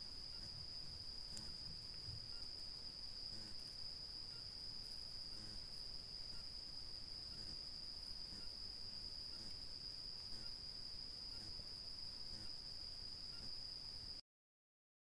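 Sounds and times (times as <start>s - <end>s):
night insects trilling: 0.0s - 14.2s.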